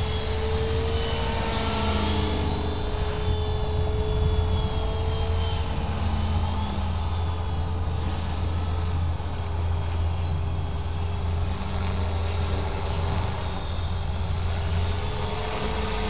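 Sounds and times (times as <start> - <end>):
faint high motor whine: 0.0 - 16.0
helicopter rotor hum: 0.0 - 16.0.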